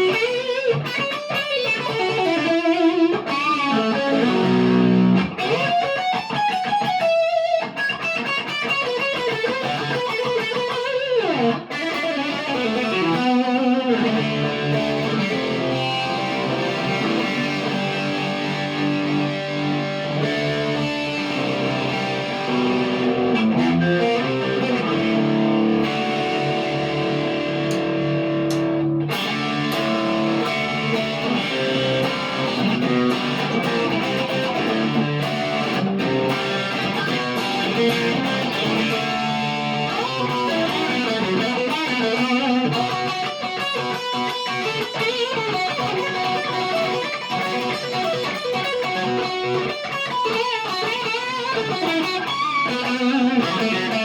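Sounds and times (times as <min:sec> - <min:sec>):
electric guitar chords and melody: 0:00.0 - 0:54.0.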